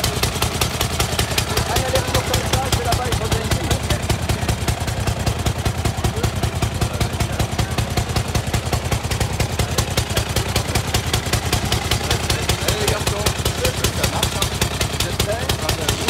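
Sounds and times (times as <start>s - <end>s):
old car engine idling: 0.0s - 16.0s.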